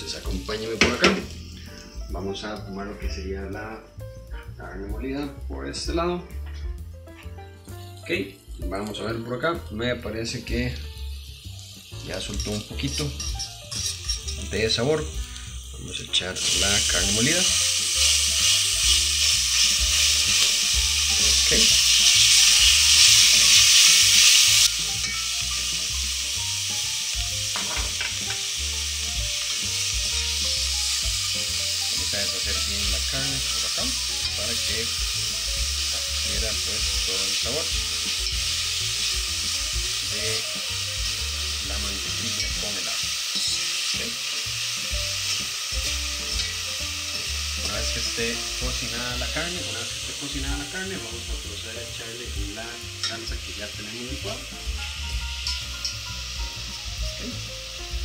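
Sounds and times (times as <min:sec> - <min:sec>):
meat sizzling in a pot: 0:00.0 - 0:58.0.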